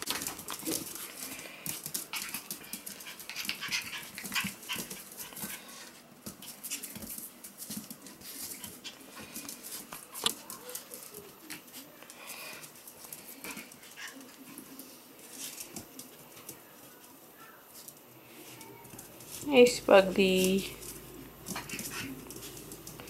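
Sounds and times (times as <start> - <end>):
puppy paws clicking on hard floor: 0.0 - 23.0.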